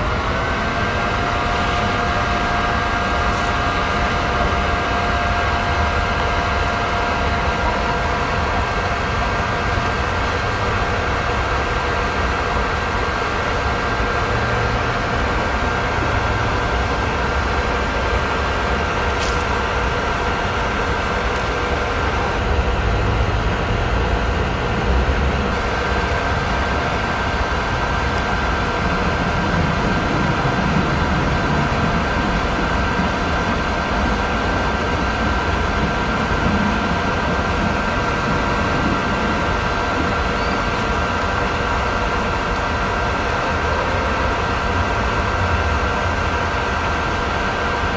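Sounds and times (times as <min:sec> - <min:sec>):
constant high whine: 0:00.0 - 0:47.9
machine mechanical drone: 0:00.0 - 0:47.9.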